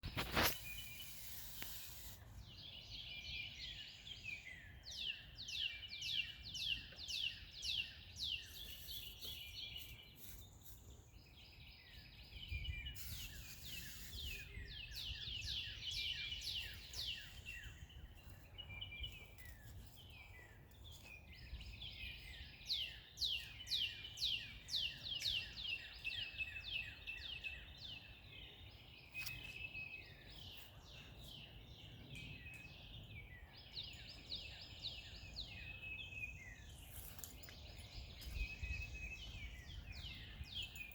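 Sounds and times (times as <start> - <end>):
soft bird chirps: 0.0 - 40.9
songbirds whistling: 0.0 - 40.9.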